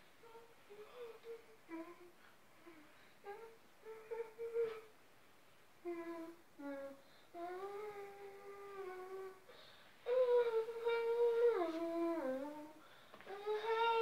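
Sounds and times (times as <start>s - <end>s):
child humming: 0.2s - 4.9s, 5.8s - 14.0s.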